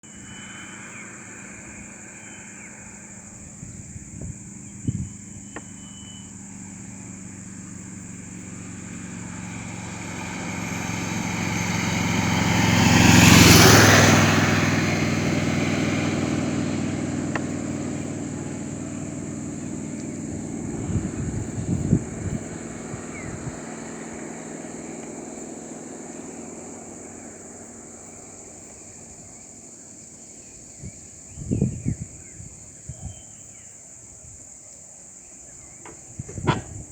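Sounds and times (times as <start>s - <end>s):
vehicle passing by: 0.0s - 5.4s, 6.3s - 31.8s
engine idling hum: 0.0s - 36.9s.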